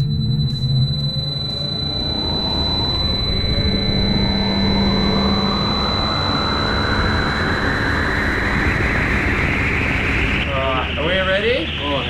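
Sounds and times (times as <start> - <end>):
blender rotor whine and whoosh: 0.0 - 10.9
steady high-pitched tone: 0.0 - 12.0.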